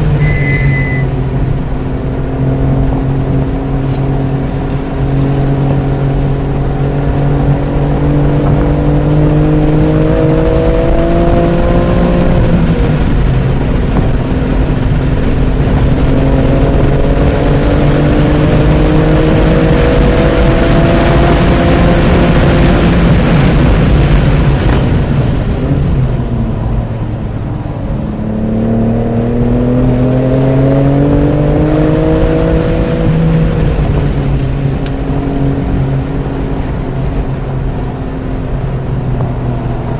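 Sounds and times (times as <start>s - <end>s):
car engine accelerating hard: 0.0s - 39.9s
rushing wind noise: 0.0s - 39.9s.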